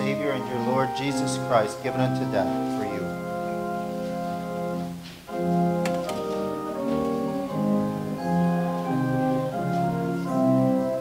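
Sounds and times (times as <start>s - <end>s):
church organ chords: 0.0s - 11.0s.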